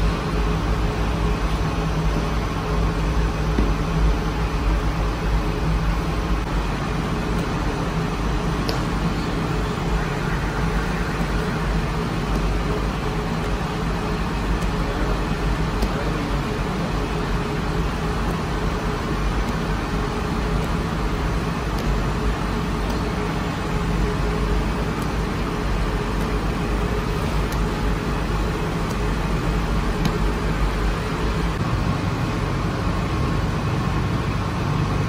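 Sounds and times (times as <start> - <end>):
machinery rumble and hum: 0.0 - 35.0.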